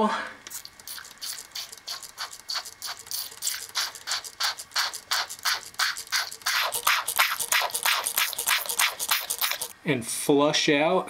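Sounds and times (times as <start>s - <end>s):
spray bottle squirting: 0.4s - 9.7s.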